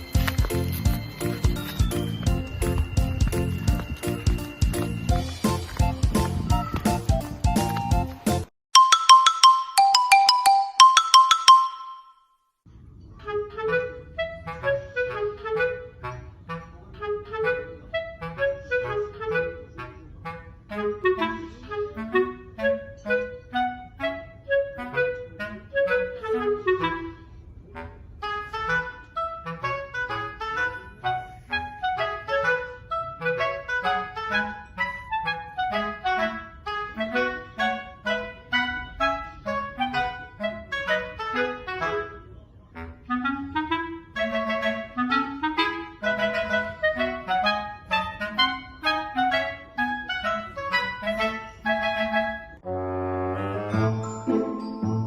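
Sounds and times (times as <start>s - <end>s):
woodwind melody: 0.0s - 8.9s, 13.2s - 55.0s
bouncy clarinet tune: 0.0s - 11.9s, 13.2s - 55.0s.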